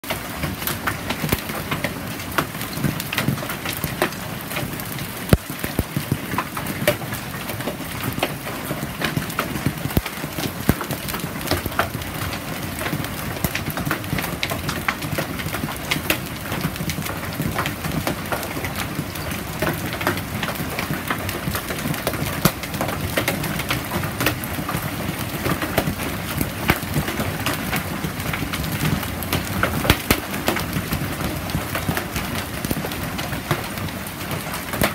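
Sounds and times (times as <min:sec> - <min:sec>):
hail on concrete and grass: 0:00.0 - 0:34.9.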